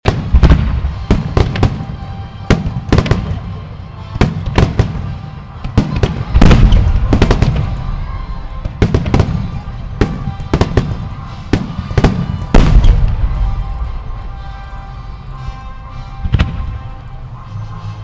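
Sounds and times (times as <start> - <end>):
fireworks bangs: 0.0 - 14.7.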